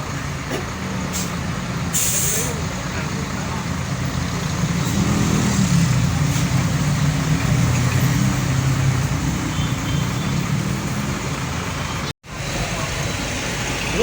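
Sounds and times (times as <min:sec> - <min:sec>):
bus diesel engine rumbling: 0:00.0 - 0:14.0
traffic noise: 0:00.0 - 0:14.0.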